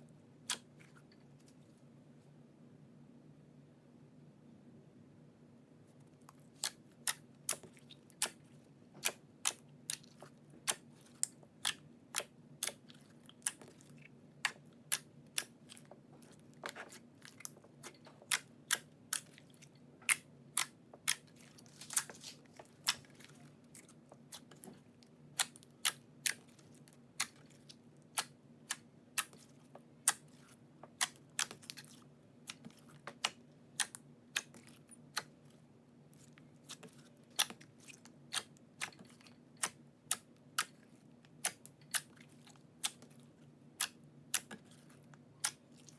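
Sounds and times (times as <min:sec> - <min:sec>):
faint low hum: 0:00.0 - 0:45.9.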